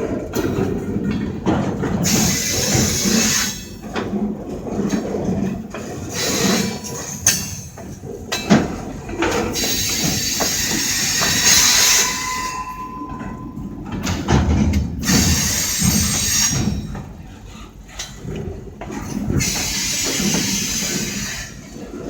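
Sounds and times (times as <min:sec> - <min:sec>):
freight train rolling on rails: 0:00.0 - 0:22.0.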